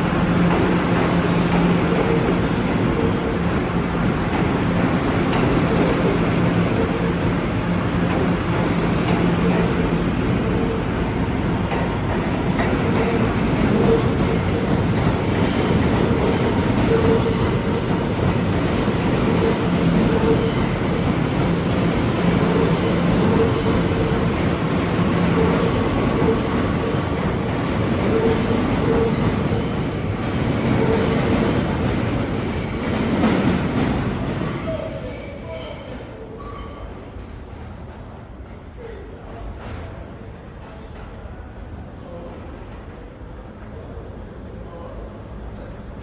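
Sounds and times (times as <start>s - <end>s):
subway train rumbling on rails: 0.0s - 46.0s.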